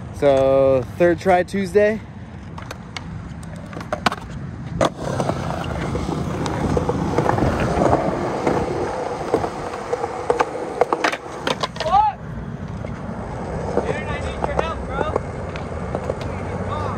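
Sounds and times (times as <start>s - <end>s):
skateboard wheels rolling on concrete: 0.0s - 16.9s
skateboard clacks: 2.5s - 16.9s.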